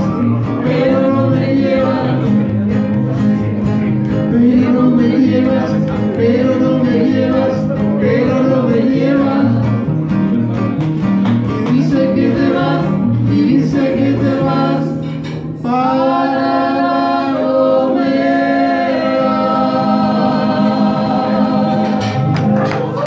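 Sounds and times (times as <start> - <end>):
man and woman singing duet: 0.0 - 3.0, 4.1 - 9.9, 11.5 - 22.6
strummed classical guitars: 0.0 - 23.0.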